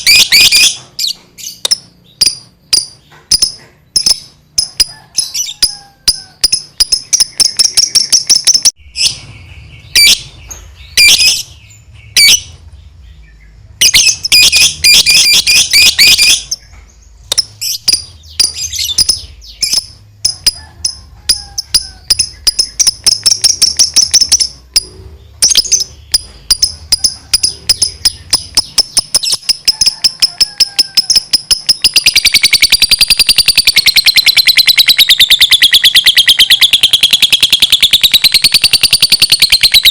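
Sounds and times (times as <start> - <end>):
lovebird chattering: 0.0 - 12.5, 13.8 - 39.9.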